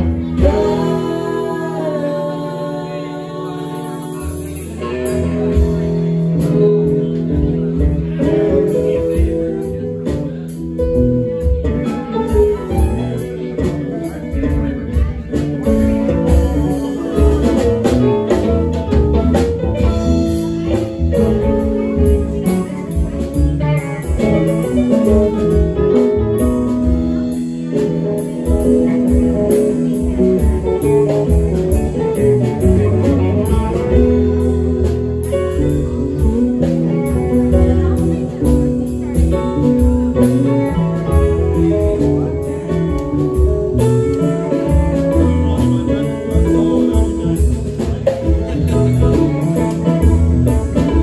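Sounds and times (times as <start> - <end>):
drums: 0.0 - 51.0
electric guitars: 0.0 - 51.0
electric keyboard: 0.0 - 51.0.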